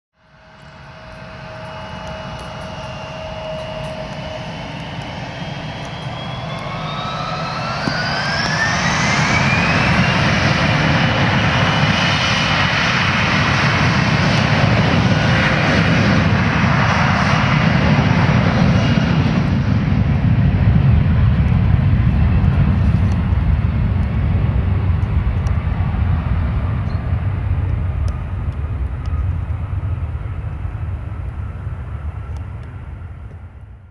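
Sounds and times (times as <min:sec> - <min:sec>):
loud jet roar: 0:00.2 - 0:33.3
jet engines spooling up whine: 0:00.2 - 0:33.9.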